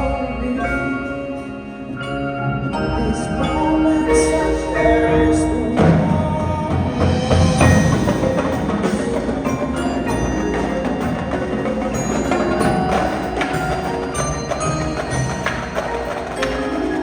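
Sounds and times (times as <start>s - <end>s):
mallet percussion notes ringing: 0.0s - 17.0s.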